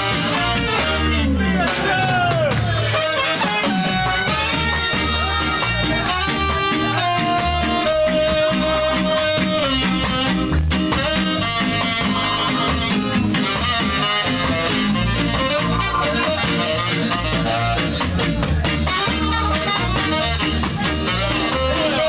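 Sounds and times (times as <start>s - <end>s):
bass guitar: 0.0s - 22.0s
drum kit beat: 0.0s - 22.0s
electric guitar: 0.0s - 22.0s
saxophone: 0.0s - 22.0s.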